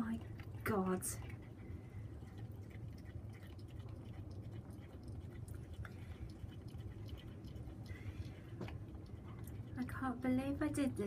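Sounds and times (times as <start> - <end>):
cat chewing with small crunches: 0.0 - 11.0.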